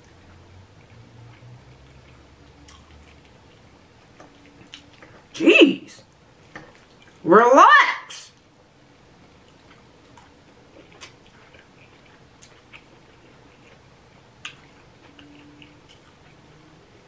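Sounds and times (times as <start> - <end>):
chewing greens: 0.0 - 5.2, 6.5 - 7.2, 9.2 - 17.0.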